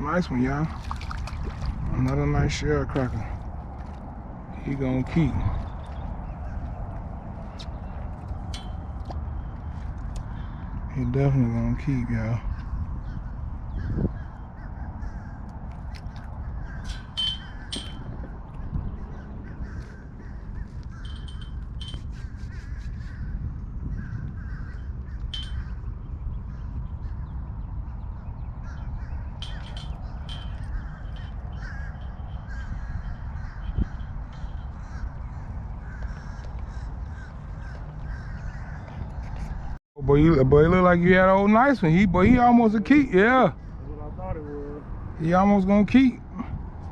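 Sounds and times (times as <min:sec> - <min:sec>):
birds calling: 0:00.0 - 0:39.8, 0:40.8 - 0:46.9.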